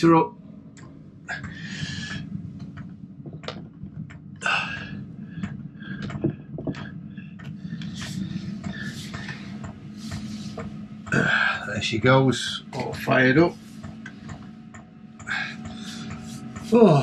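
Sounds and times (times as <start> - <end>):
heater fan hum: 0.0 - 17.0.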